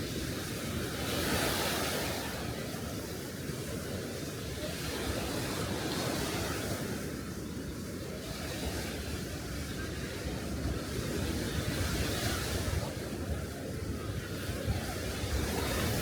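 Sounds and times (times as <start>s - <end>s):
sea waves washing on beach: 0.0s - 16.0s.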